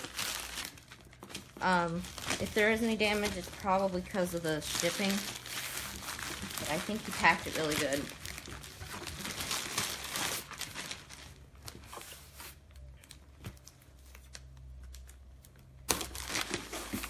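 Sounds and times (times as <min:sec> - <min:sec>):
packing material crinkling: 0:00.0 - 0:17.0.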